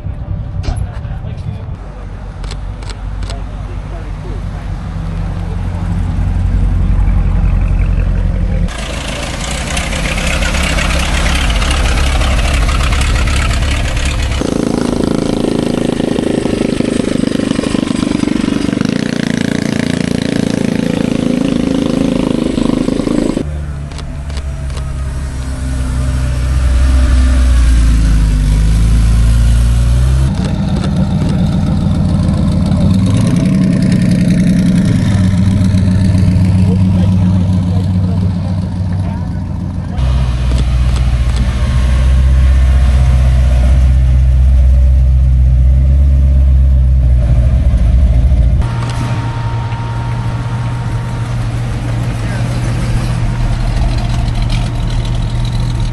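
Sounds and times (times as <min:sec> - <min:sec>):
car engines revving: 0:00.0 - 0:55.9.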